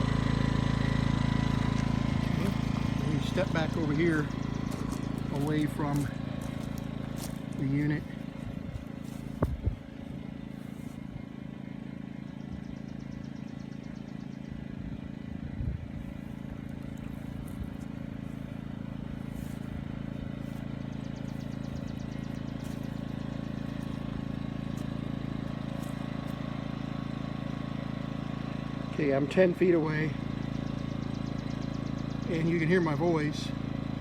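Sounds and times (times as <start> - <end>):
generator running: 0.0 - 34.0.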